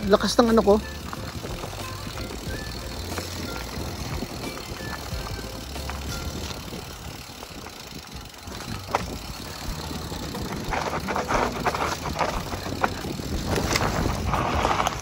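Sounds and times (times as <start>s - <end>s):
bike rattling over bumps: 0.0s - 15.0s
tyres on dirt and dry leaves: 0.0s - 15.0s
wind rumble on microphone: 0.1s - 15.0s.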